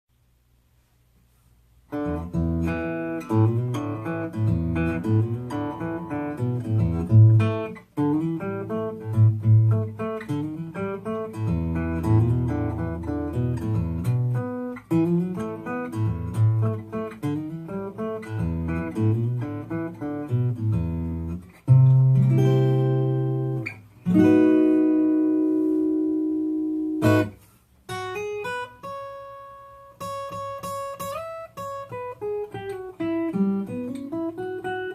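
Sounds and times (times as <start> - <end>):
finger-picked acoustic guitar: 1.3 - 34.9.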